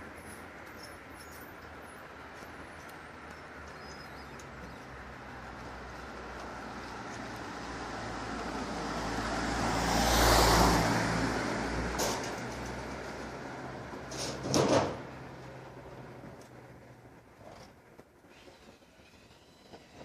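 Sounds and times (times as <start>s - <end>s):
road vehicle passing: 0.0s - 18.0s.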